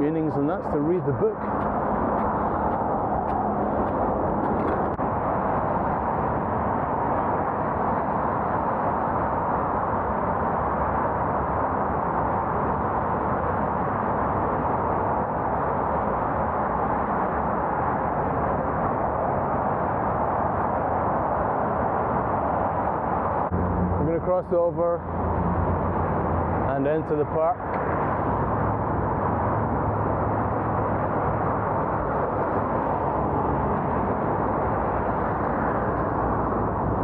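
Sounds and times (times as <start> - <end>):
wind and road rushing noise: 0.0 - 37.0.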